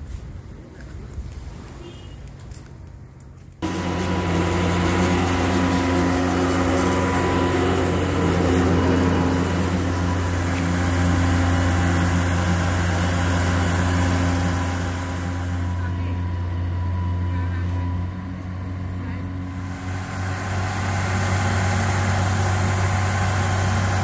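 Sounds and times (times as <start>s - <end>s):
boat engine running: 3.6s - 24.0s.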